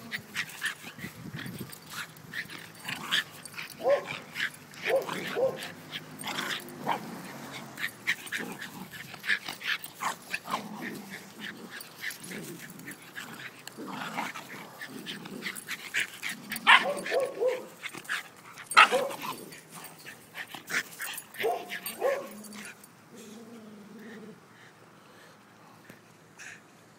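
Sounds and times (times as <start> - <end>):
dogs yipping and barking: 0.0 - 22.9.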